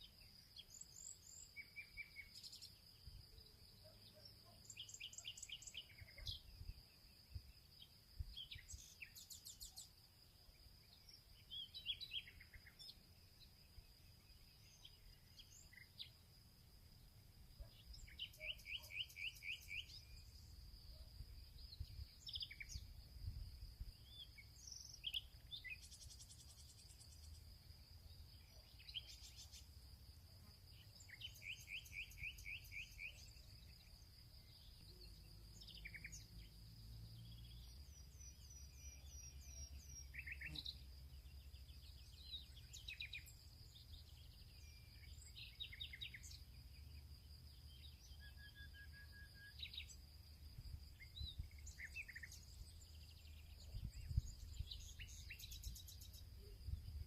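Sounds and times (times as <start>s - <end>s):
songbirds calling and singing: 0.0s - 57.0s.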